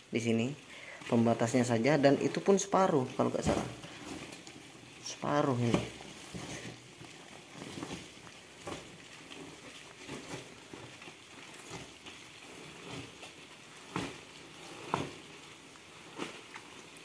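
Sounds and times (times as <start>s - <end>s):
cardboard rustling and scraping: 0.1s - 17.0s.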